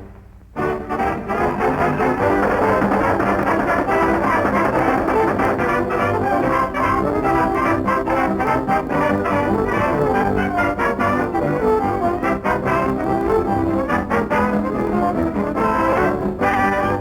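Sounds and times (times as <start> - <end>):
brass orchestral cartoon music: 0.0 - 17.0.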